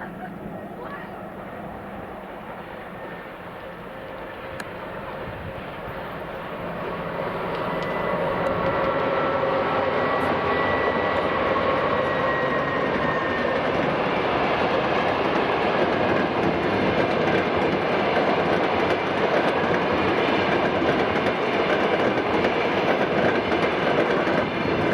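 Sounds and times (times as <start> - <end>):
passenger train rolling past: 0.0 - 24.9.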